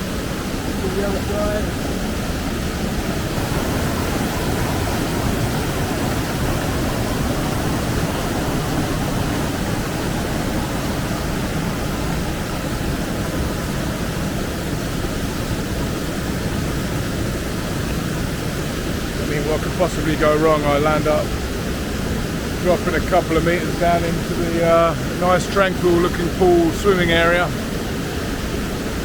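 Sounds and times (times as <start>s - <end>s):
waterfall rushing water: 0.0s - 29.0s.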